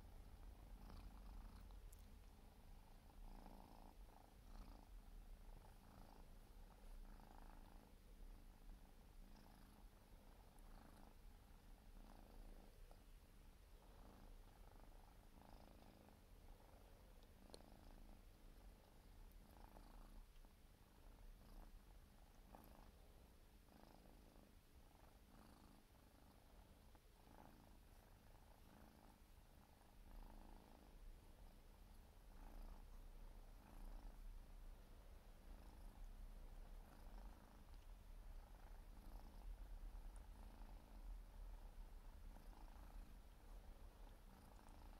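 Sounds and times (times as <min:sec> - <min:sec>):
kitten purring: 0:00.0 - 0:44.9.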